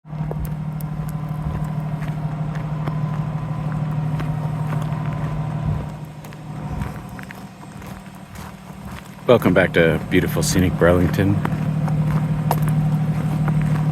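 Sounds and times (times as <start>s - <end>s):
vehicle engine idling: 0.0s - 13.9s.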